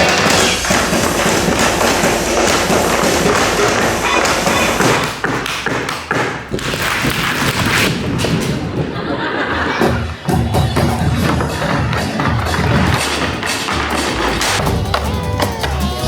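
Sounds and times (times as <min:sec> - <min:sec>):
tap shoes striking floor: 0:00.0 - 0:08.9, 0:11.0 - 0:15.8.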